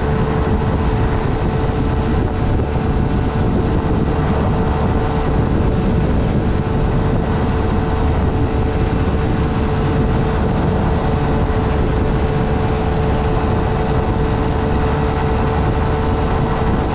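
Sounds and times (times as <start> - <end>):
motorcycle engine running: 0.0 - 16.9
road noise: 0.0 - 16.9
rush of wind: 0.0 - 16.9.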